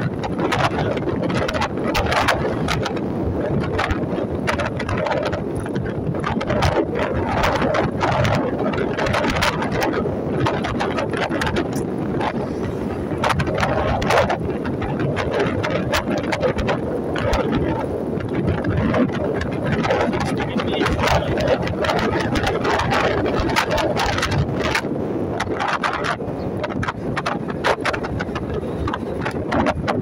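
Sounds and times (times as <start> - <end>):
vehicle engine and road noise: 0.0 - 30.0
wind buffeting microphone: 0.0 - 30.0.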